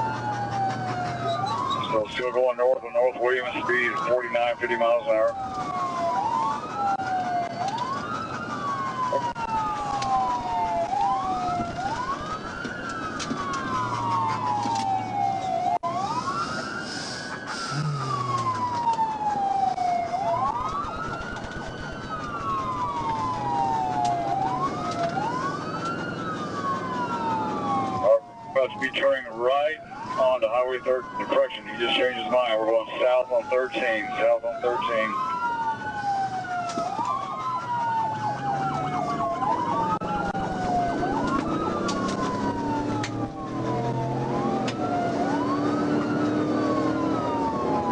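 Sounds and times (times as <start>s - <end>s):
engine and road noise: 0.0s - 47.9s
police sirens wailing: 0.0s - 47.9s.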